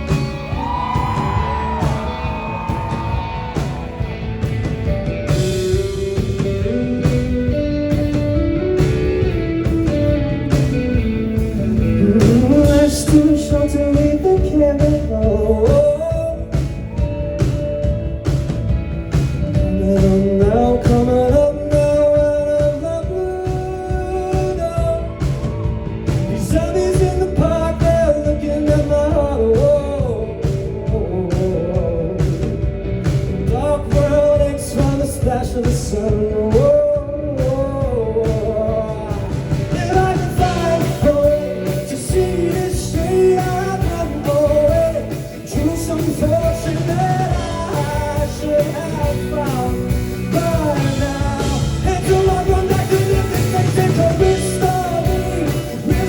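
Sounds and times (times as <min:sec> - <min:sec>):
person singing: 0:00.0 - 0:04.6, 0:05.3 - 0:09.4, 0:11.4 - 0:17.2, 0:19.5 - 0:32.8, 0:33.4 - 0:56.0
live rock band: 0:00.0 - 0:56.0.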